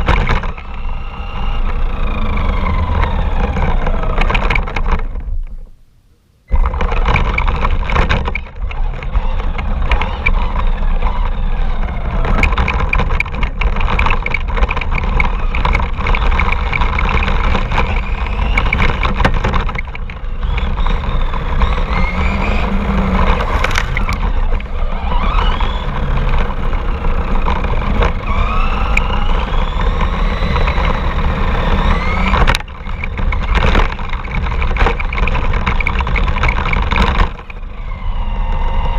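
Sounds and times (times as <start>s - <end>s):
rc car motor whine: 0.0s - 5.6s, 6.5s - 38.9s
heavy steady rumble: 0.0s - 38.9s.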